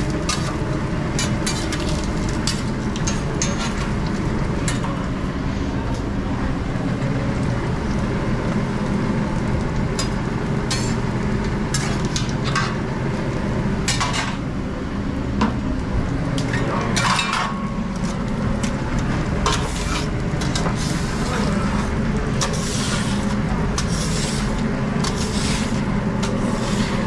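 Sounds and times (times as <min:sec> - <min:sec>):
food frying on griddle: 0:00.0 - 0:27.0.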